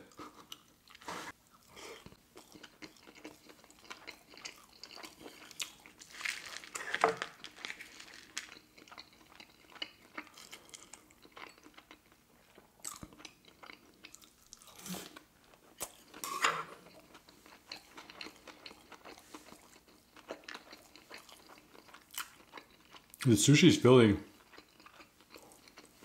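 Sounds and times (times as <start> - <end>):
person chewing food: 0.0 - 23.2, 24.3 - 26.0
food crunching: 0.1 - 23.3, 24.2 - 26.0.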